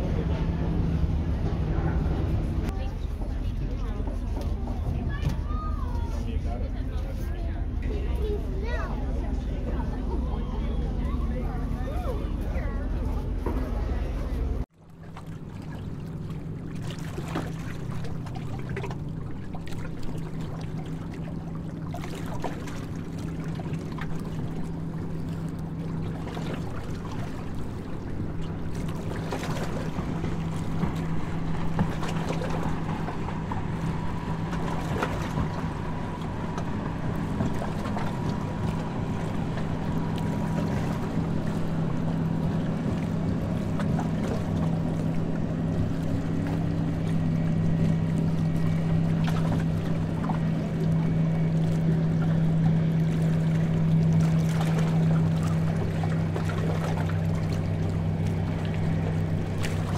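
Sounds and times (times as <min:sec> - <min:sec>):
boat engine droning: 0:00.0 - 0:59.9
rushing water: 0:00.0 - 0:59.9
wind: 0:00.0 - 0:59.9.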